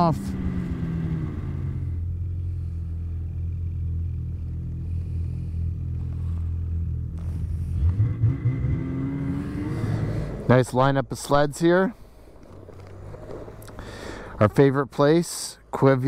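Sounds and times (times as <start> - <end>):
snowmobile engine droning: 0.0 - 16.0.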